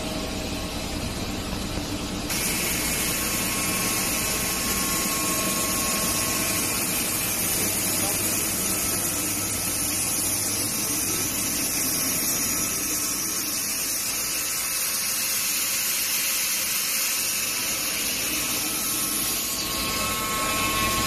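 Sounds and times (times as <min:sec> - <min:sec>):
extrusion machine running: 0:00.0 - 0:21.0.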